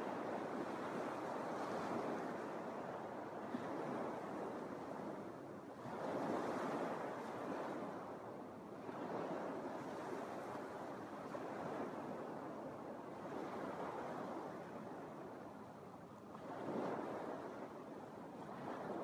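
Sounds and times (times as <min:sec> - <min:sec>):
small waves washing up a sand beach: 0:00.0 - 0:19.0.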